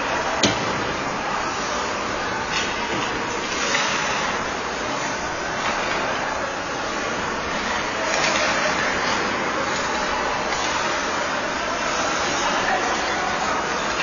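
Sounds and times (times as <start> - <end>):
arena noise: 0.0 - 14.0.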